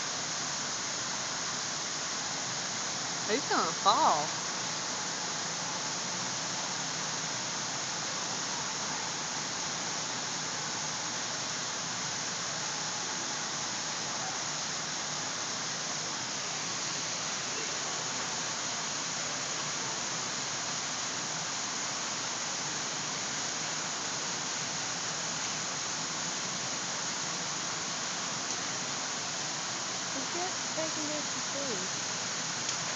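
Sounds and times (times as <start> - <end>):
waterfall pouring into pool: 0.0 - 32.9.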